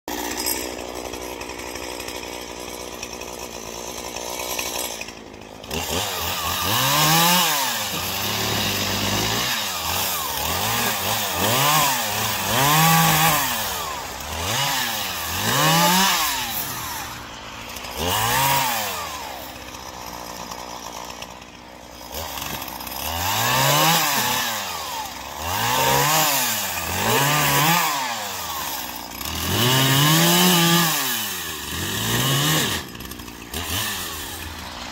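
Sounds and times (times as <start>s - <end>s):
chainsaw revving and cutting wood: 0.0s - 34.9s.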